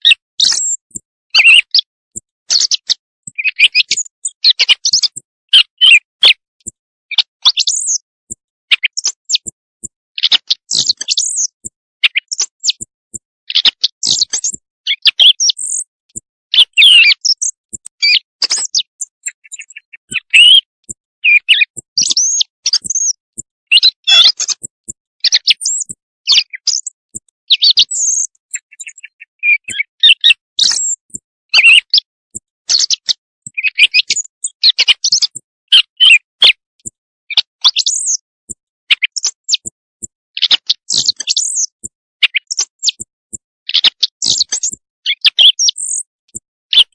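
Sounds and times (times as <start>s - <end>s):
songbird chirps and trills: 0.1s - 6.4s, 7.1s - 9.6s, 10.2s - 36.3s, 37.3s - 38.3s, 38.9s - 39.8s, 40.4s - 43.1s, 43.9s - 46.1s.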